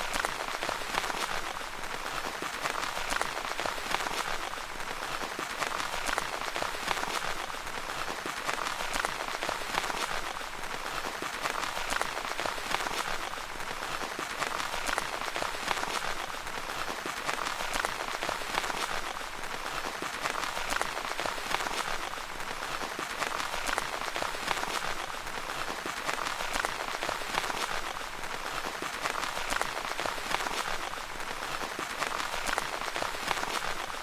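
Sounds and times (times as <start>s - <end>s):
rain pattering on tent fabric: 0.0s - 34.0s.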